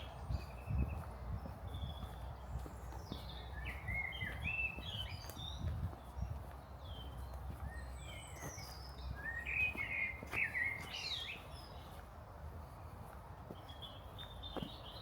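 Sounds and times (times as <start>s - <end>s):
songbirds chirping and singing: 0.0s - 15.0s.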